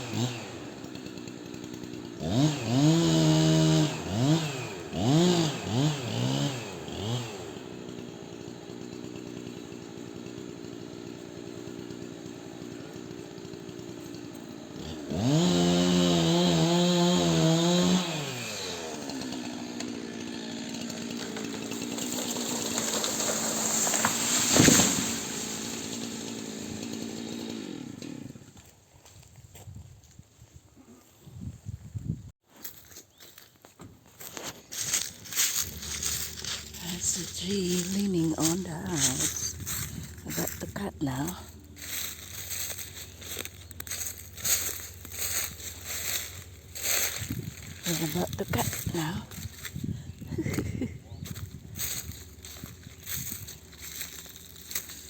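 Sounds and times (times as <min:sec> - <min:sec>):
chainsaw revving: 0:00.0 - 0:28.6, 0:34.7 - 0:55.0.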